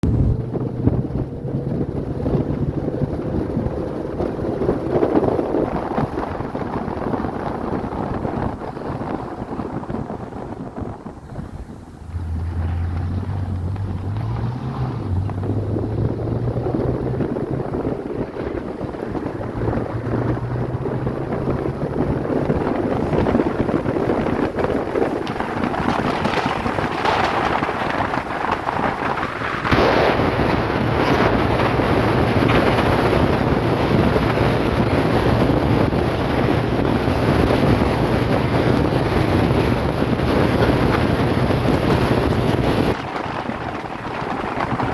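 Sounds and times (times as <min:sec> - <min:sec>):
car engine accelerating: 0:00.0 - 0:44.9
wind noise on microphone: 0:00.0 - 0:44.9.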